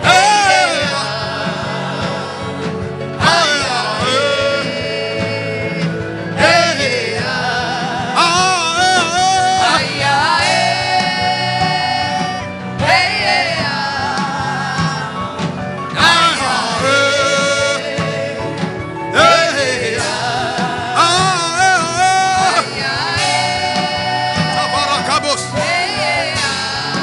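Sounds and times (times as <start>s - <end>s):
person singing: 0.0s - 18.6s, 19.2s - 27.0s
instrumental accompaniment: 0.0s - 27.0s.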